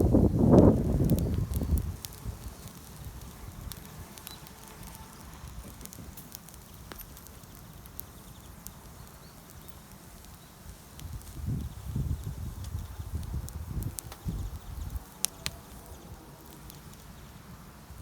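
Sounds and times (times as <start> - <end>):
campfire crackles and pops: 0.0 - 18.0
low rumble of fire: 0.0 - 18.0.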